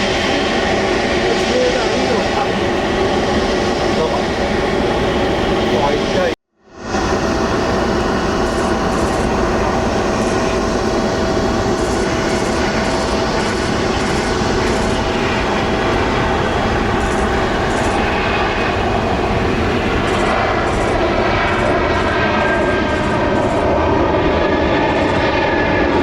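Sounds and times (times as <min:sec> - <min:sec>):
held engine whine: 0:00.0 - 0:26.0
jet engines rushing: 0:00.0 - 0:26.0.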